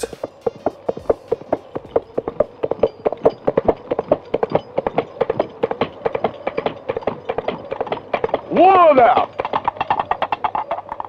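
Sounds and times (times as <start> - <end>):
coconut shells clip-clopping: 0.0 - 11.0.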